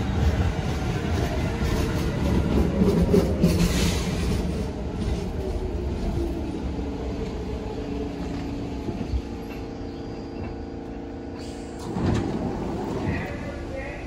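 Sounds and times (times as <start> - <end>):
subway train rumbling on track: 0.0 - 14.0.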